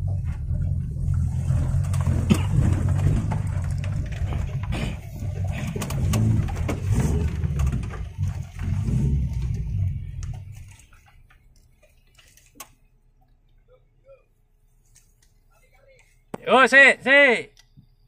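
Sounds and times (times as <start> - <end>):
off-road vehicle engine rumbling: 0.0 - 18.0.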